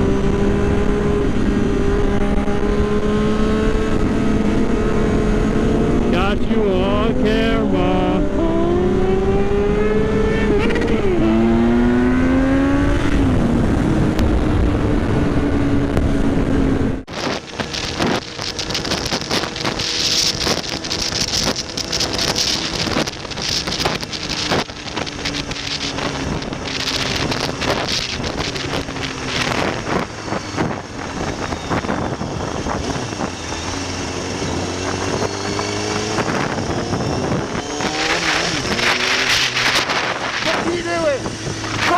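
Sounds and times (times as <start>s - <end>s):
motorcycle engine accelerating: 0.0s - 41.9s
wind buffeting microphone: 0.0s - 41.9s.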